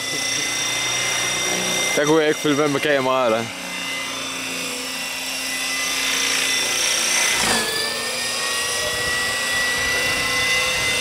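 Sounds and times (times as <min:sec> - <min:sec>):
model helicopter rotor whine: 0:00.0 - 0:11.0
rotor whoosh: 0:00.0 - 0:11.0.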